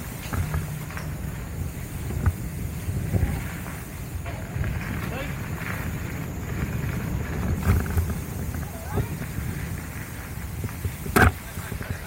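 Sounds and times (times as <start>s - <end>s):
small rattles and ticks: 0.0s - 12.0s
wind and tyre rumble: 0.0s - 12.0s.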